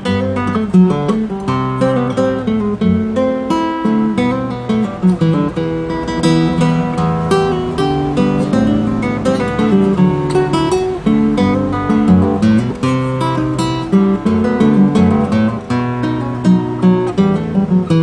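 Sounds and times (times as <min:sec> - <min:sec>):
fingerstyle classical guitar: 0:00.0 - 0:18.0.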